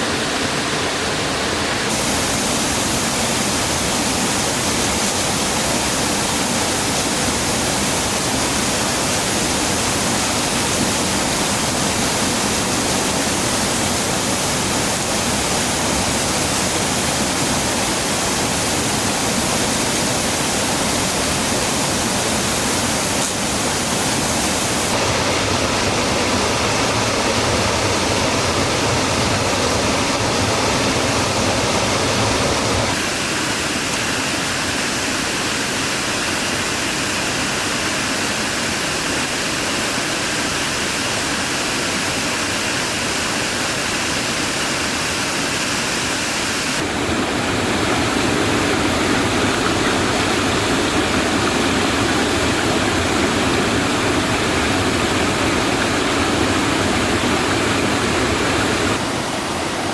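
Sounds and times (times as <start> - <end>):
rushing falling water: 0.0 - 59.9.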